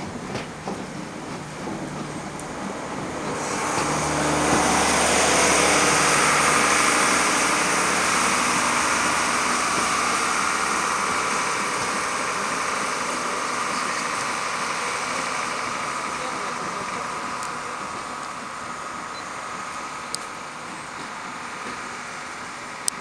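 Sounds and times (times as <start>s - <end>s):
train rolling along track: 0.0s - 23.0s.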